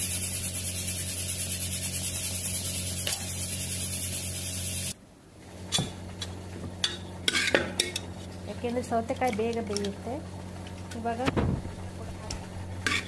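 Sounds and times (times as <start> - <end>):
electrical hum with high hiss: 0.0 - 13.0.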